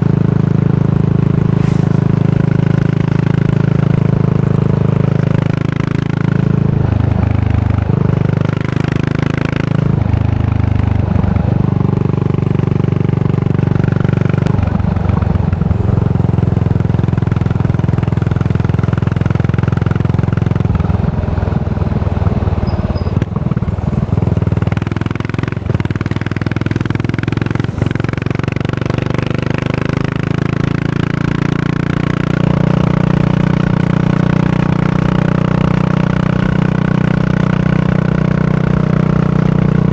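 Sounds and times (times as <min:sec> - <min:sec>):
motorcycle exhaust: 0:00.0 - 0:39.9.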